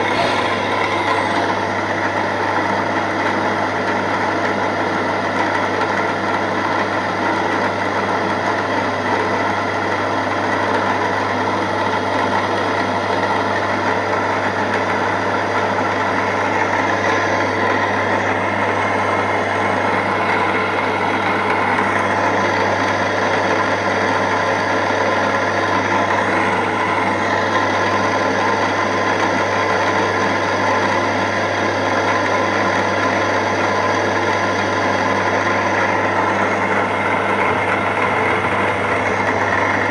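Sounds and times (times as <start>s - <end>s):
end mill cutting metal: 0.0s - 7.6s, 10.8s - 39.9s
milling machine hum: 0.0s - 39.9s.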